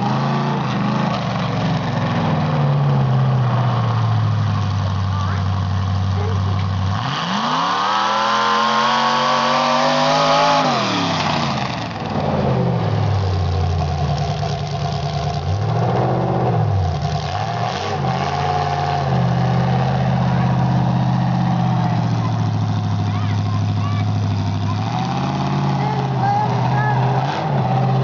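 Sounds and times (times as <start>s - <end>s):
racing engine revving: 0.0s - 28.0s.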